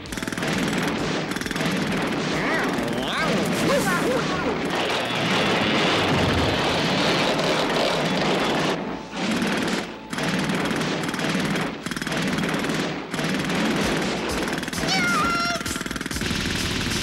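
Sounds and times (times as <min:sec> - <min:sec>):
jackhammer pounding: 0:00.0 - 0:17.0.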